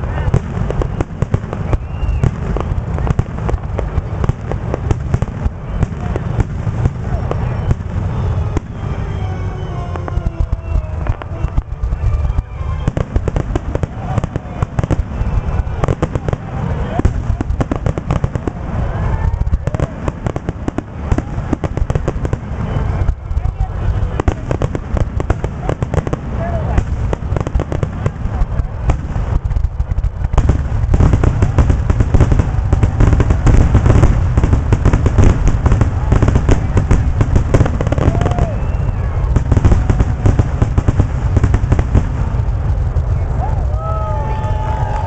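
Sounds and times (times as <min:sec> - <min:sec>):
fireworks bursting with bangs: 0:00.0 - 0:45.0
low rumble: 0:00.0 - 0:45.0.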